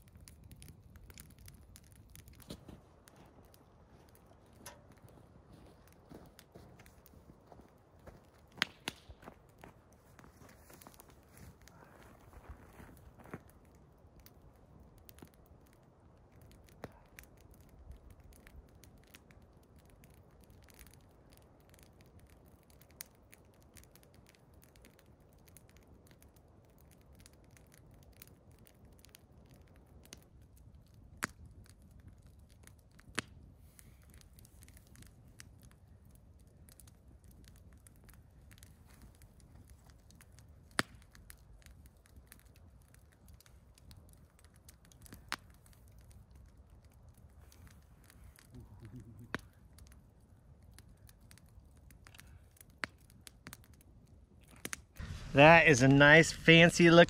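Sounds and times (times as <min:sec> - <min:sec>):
sharp fire pops: 0:00.0 - 0:06.9, 0:08.0 - 0:09.8, 0:12.7 - 0:35.8, 0:36.7 - 0:46.5, 0:47.1 - 0:49.9, 0:50.7 - 0:53.8, 0:54.4 - 0:57.0
campfire crackling: 0:00.0 - 0:57.0.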